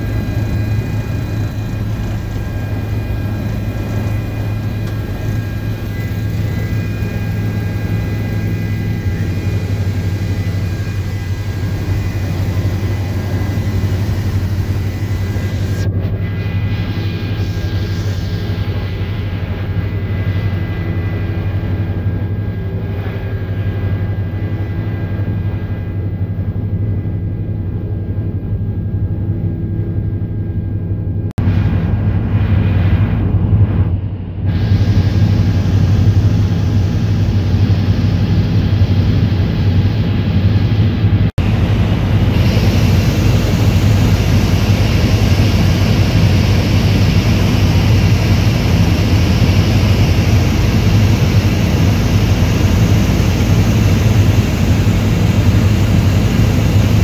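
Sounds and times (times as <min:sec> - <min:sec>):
rushing air noise: 0:00.0 - 0:26.5, 0:31.4 - 0:57.0
helicopter cabin drone: 0:00.0 - 0:57.0.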